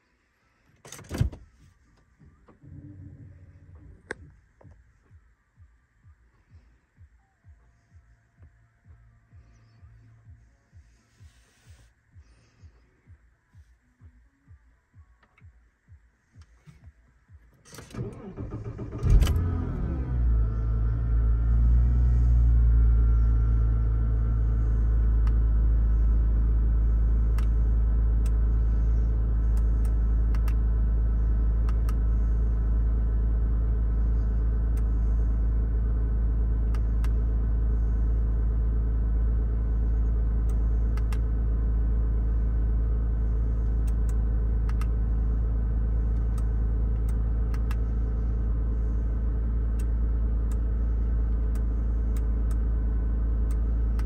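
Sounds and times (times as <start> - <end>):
car engine starting and idling: 0.1 - 7.0, 16.4 - 54.0.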